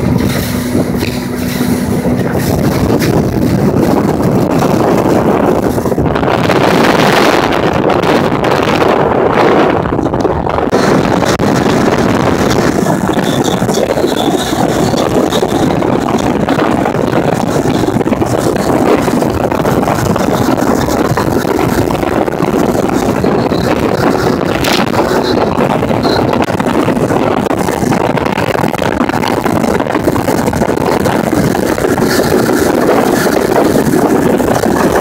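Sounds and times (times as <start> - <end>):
motorboat engine and water: 0.0 - 35.0
wind buffeting microphone: 0.0 - 35.0.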